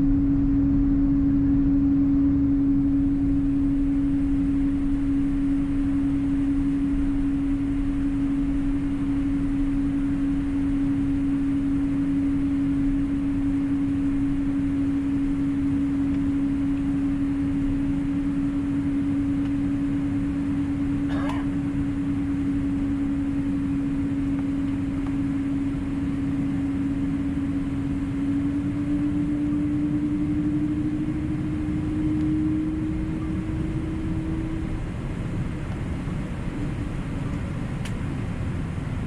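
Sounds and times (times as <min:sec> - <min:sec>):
aircraft cabin rumble: 0:00.0 - 0:39.0
loud steady hum: 0:00.0 - 0:39.0.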